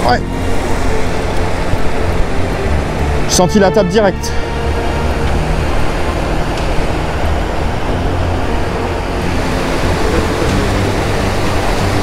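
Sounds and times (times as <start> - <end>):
river water pouring over a weir: 0.0 - 12.0.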